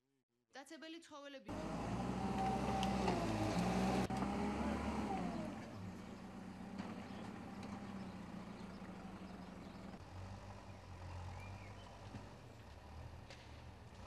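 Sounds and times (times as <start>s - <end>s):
engine humming: 1.5s - 14.0s.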